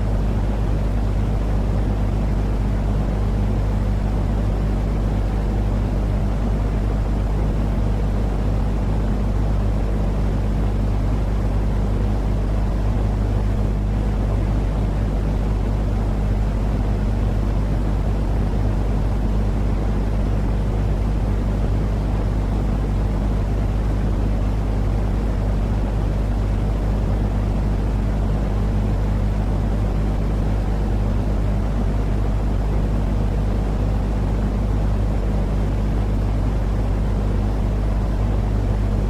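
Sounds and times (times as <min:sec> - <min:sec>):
constant low hum: 0:00.0 - 0:39.0.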